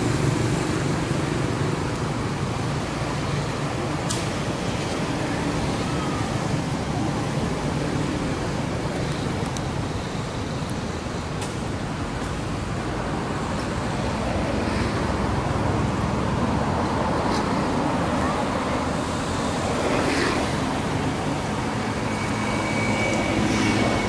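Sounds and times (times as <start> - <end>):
outdoor rumble and hiss: 0.0 - 24.0.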